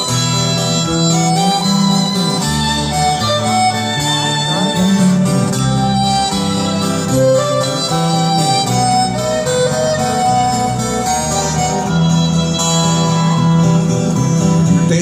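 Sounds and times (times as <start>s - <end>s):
rock music: 0.0s - 15.0s
violin melody: 0.0s - 15.0s.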